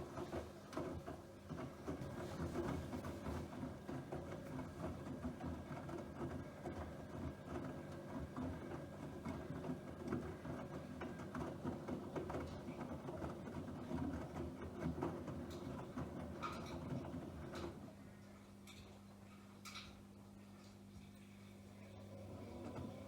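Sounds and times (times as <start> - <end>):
washing machine whirring: 0.0 - 23.0.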